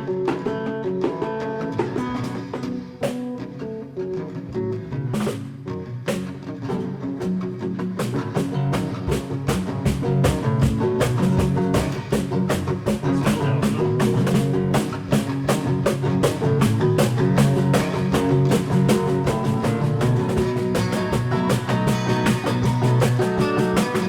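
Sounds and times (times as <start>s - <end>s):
guitar: 0.0s - 24.0s
drum kit quick beat: 0.2s - 3.4s, 5.2s - 24.0s.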